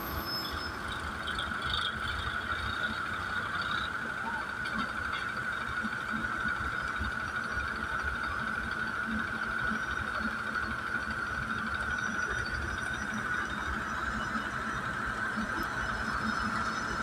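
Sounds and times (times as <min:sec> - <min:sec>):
electric locomotive whine and rumble: 0:00.0 - 0:17.0.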